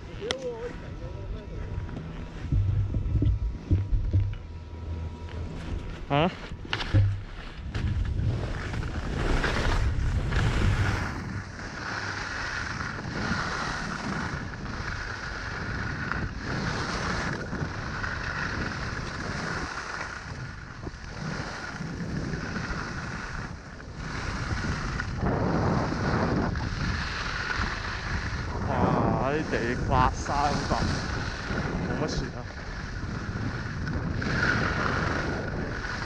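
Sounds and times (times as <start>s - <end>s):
skis scraping over snow: 0.0s - 4.4s, 5.3s - 36.0s
wind buffeting microphone: 0.0s - 36.0s.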